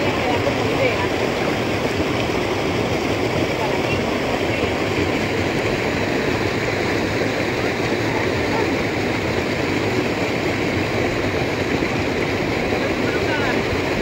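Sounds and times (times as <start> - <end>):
small cascade: 0.0 - 14.0
water running over stones: 0.0 - 14.0.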